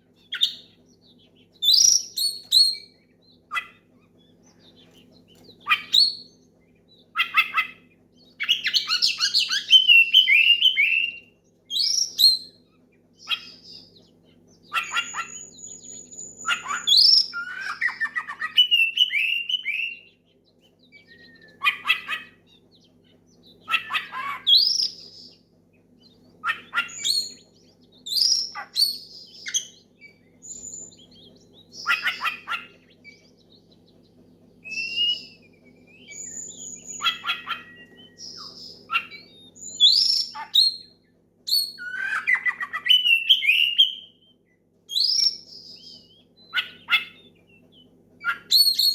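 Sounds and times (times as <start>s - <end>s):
songbird singing loudly: 0.0s - 48.9s.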